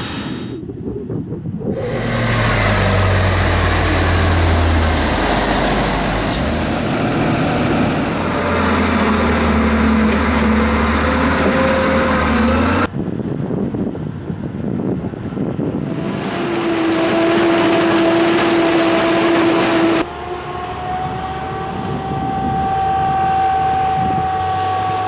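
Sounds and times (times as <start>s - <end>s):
diesel farm machinery running: 1.6s - 25.0s.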